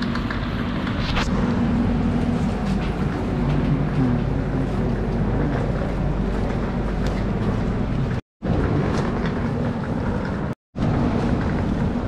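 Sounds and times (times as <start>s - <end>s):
train engine rumble: 0.0s - 12.0s.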